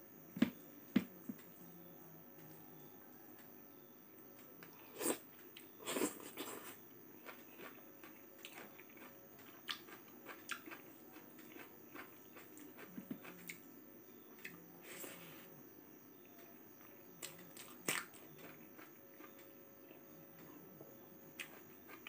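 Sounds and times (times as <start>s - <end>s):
soft chewing with clicks: 2.4s - 14.8s, 16.2s - 22.0s.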